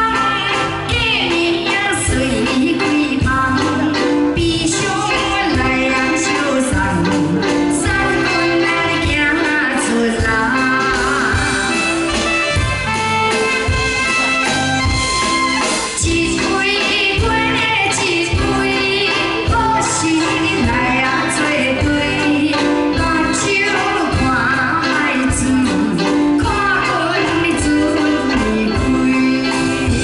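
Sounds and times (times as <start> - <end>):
woman singing into a microphone: 0.0 - 12.6, 15.8 - 30.0
live band with steady beat: 0.0 - 30.0.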